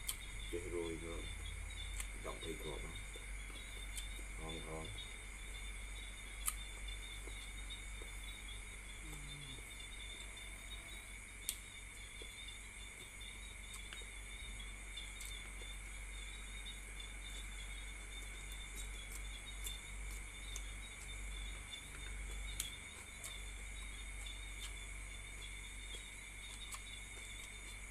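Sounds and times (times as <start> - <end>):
crickets trilling: 0.0 - 27.9.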